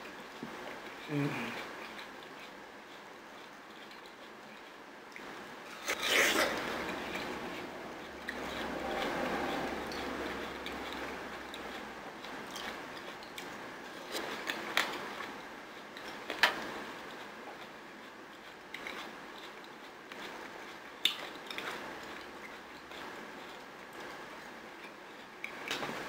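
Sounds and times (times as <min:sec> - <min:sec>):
chewing watermelon: 0:00.1 - 0:26.0.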